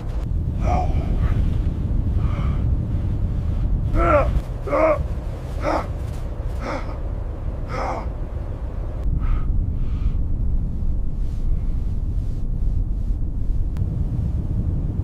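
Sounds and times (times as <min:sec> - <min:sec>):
blizzard wind rumble: 0:00.0 - 0:15.0.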